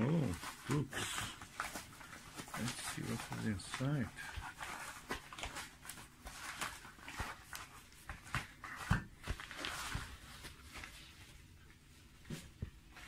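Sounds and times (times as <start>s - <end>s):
paper mailer crinkling: 0.1s - 11.0s.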